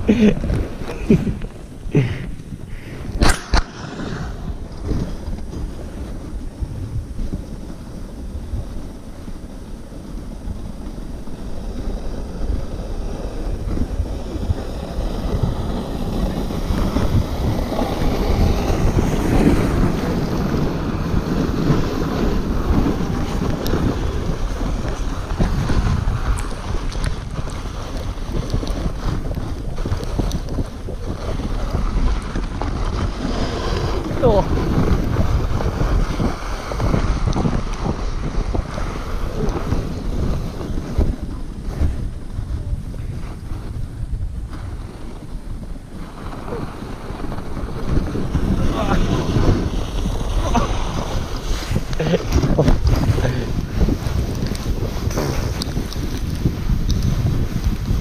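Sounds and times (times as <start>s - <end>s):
sled knocking: 0.0s - 58.0s
sled runners hissing over snow: 0.0s - 58.0s
wind rushing over microphone: 0.0s - 58.0s.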